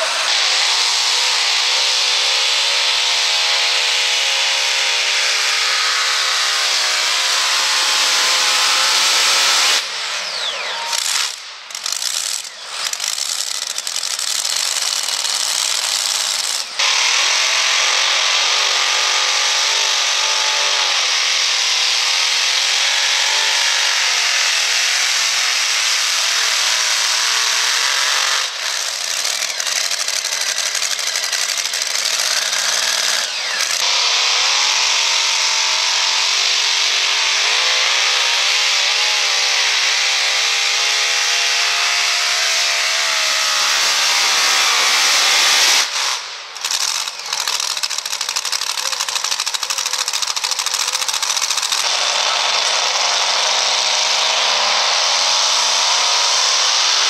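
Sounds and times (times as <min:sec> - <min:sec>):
truck engines at full throttle: 0:00.0 - 0:57.0.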